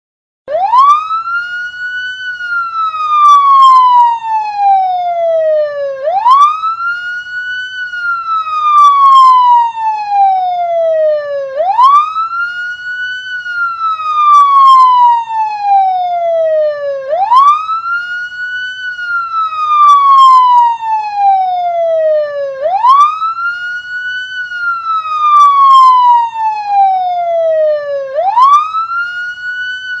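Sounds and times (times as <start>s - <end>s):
police siren wailing: 0.5s - 30.0s.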